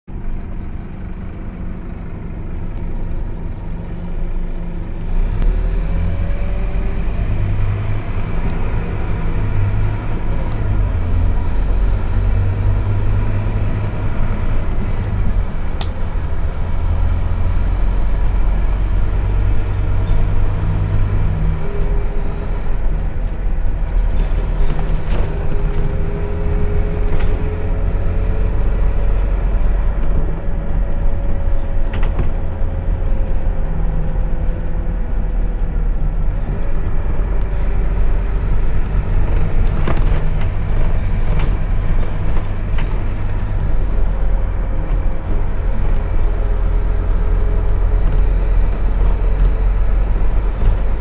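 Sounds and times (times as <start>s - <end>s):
bus diesel engine running: 0.1s - 51.0s.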